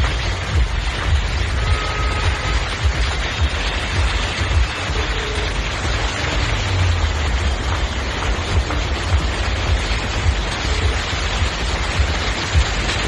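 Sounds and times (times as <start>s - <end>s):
tyres churning through water: 0.0s - 13.0s.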